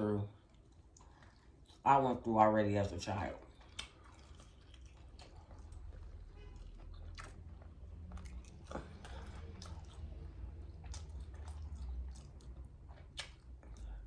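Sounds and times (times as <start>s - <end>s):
chewing crunchy fried food: 0.3s - 14.0s.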